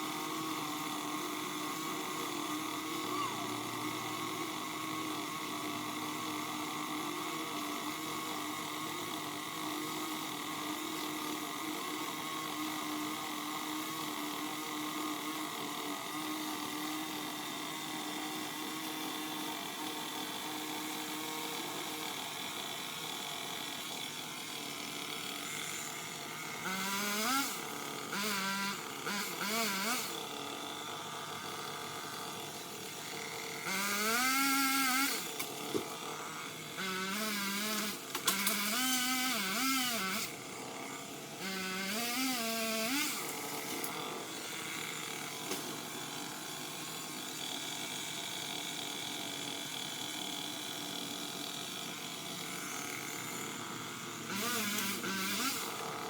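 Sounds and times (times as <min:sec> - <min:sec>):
limb cutter motor spinning up: 0:00.0 - 0:56.0.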